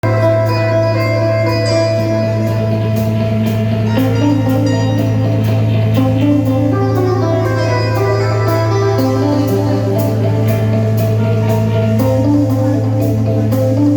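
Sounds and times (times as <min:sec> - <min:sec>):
plucked guitar melody: 0:00.0 - 0:13.9
steady low drone: 0:00.0 - 0:13.9.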